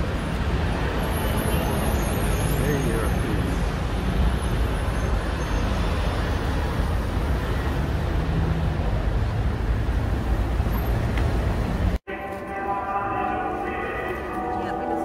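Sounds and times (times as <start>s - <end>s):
buses and cars rumbling: 0.0s - 15.0s.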